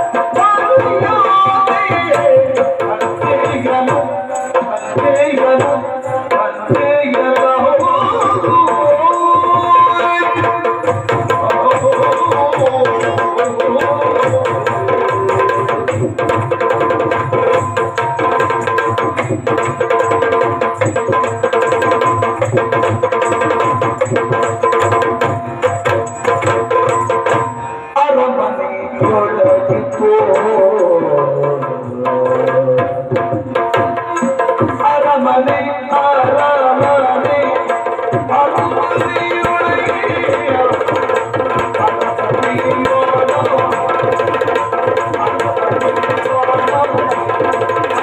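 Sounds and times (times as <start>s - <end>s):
fast drumming: 0.0s - 27.7s, 29.0s - 48.0s.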